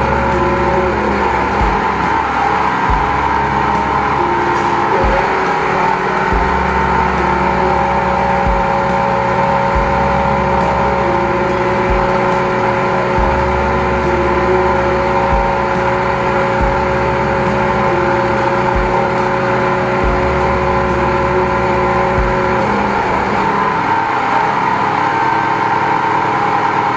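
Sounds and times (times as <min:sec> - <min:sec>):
low rumble: 0:00.0 - 0:23.8
drain jetter running: 0:00.0 - 0:26.9.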